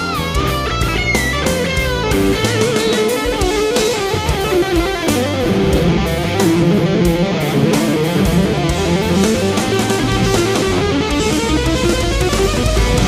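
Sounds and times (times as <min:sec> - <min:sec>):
electric guitar lead with bent notes: 0:00.0 - 0:13.0
instrumental rock band playing: 0:00.0 - 0:13.0.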